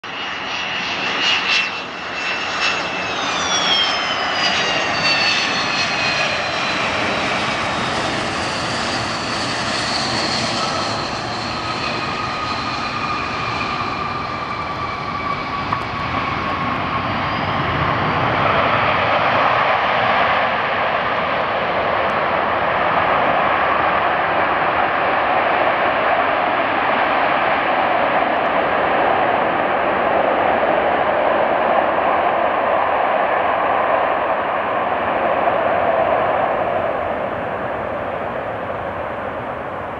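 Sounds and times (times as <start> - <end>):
jet engine rush: 0.0 - 39.9
jet engine whine falling in pitch: 0.0 - 39.9.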